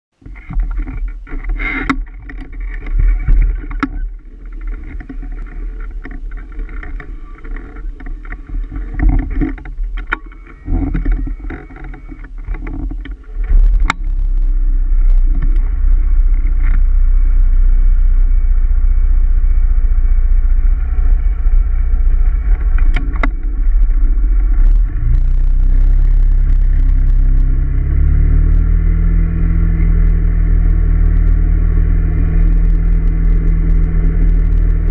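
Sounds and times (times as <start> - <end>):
wind rumble on microphone: 0.2 - 34.9
scooter engine running: 0.3 - 34.9.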